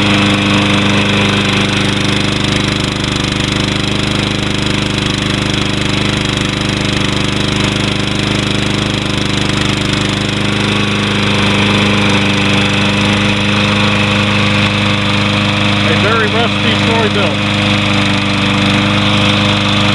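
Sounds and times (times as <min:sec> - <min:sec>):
lawn mower engine running: 0:00.0 - 0:19.9.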